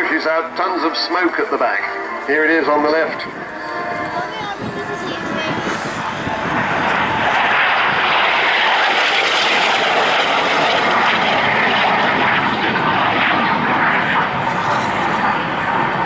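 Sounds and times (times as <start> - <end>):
jet fighter flying past: 0.0 - 16.0.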